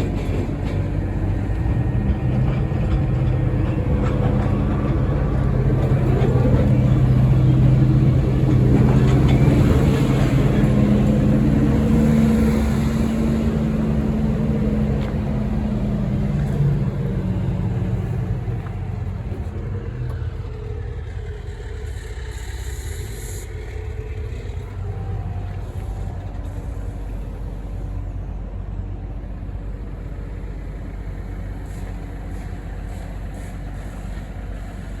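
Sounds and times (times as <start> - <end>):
truck diesel engine idling: 0.0 - 35.0.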